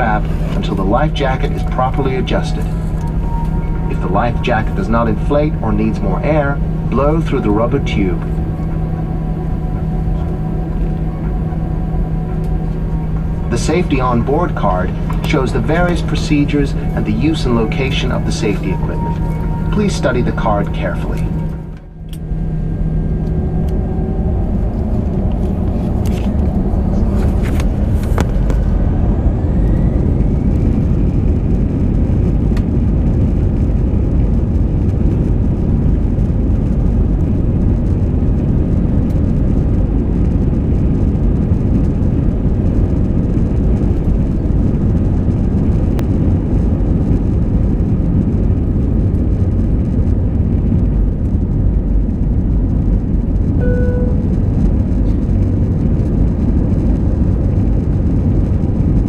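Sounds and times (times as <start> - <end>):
engine and rolling rumble: 0.0 - 59.0
jet engine whine rising: 0.0 - 59.0.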